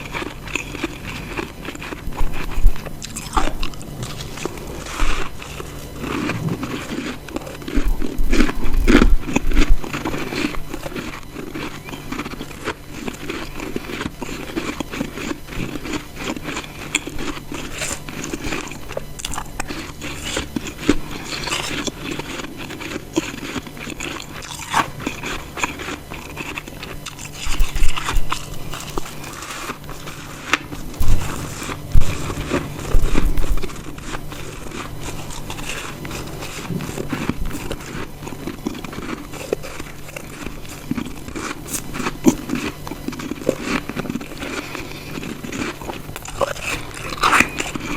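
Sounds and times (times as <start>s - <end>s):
teeth crunching ice: 0.0s - 47.9s.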